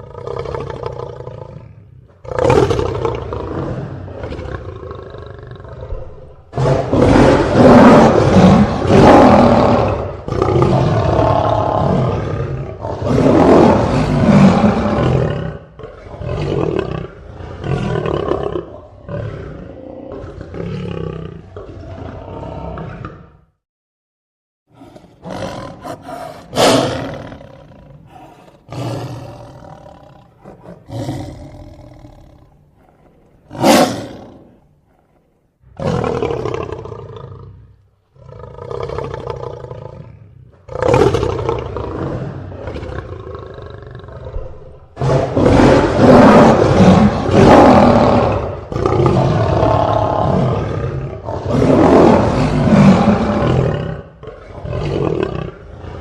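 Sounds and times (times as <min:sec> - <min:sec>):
lion roaring and growling: 0:00.0 - 0:23.5, 0:24.7 - 0:56.0.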